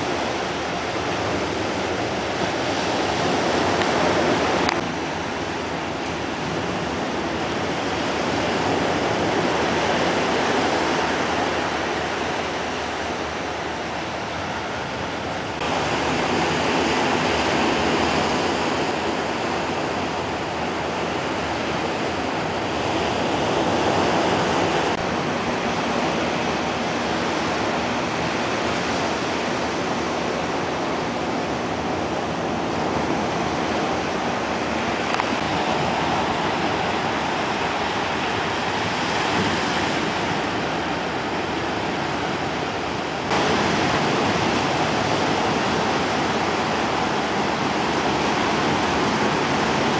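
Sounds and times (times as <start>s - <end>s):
ocean surf washing up beach: 0.0s - 49.9s.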